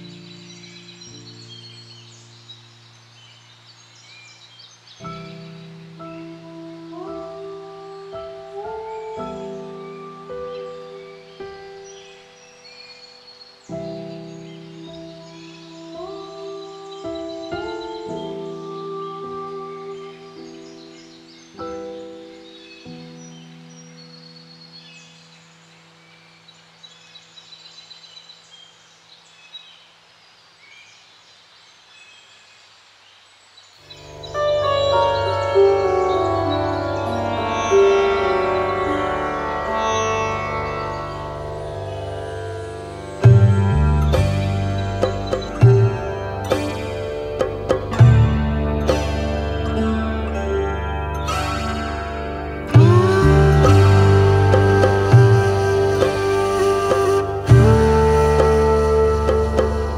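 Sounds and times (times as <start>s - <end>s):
birds chirping: 0.0s - 59.9s
outdoor ambient hiss: 0.0s - 59.9s.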